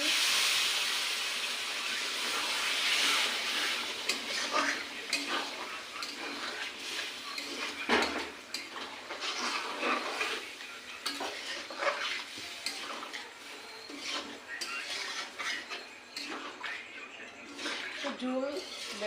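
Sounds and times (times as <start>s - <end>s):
faint sizzle: 0.0s - 19.0s
metal spoon scraping a pot: 2.1s - 19.0s.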